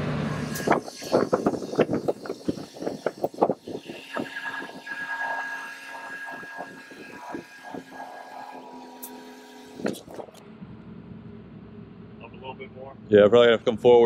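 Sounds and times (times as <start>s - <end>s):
crane engine running: 0.0s - 13.8s.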